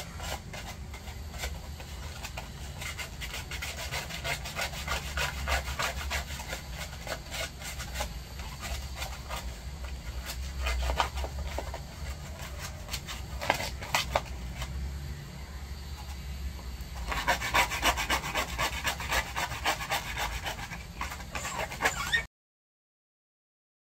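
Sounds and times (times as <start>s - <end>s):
nail file rasping on claws: 0.0s - 14.8s, 17.0s - 22.2s.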